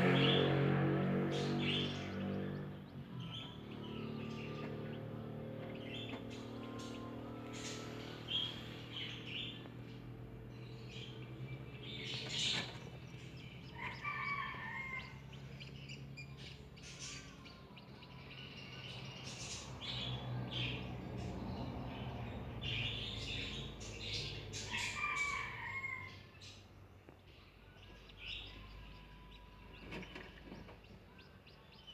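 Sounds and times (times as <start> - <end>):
chicks peeping: 1.2 - 31.9.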